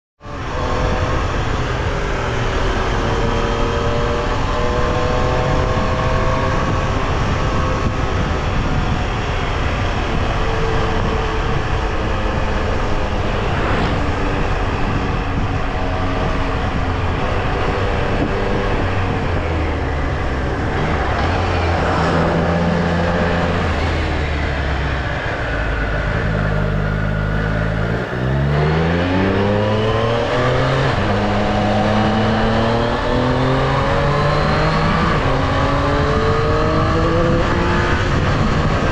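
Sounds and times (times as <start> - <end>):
motorcycle engine revving: 0.3 - 38.9.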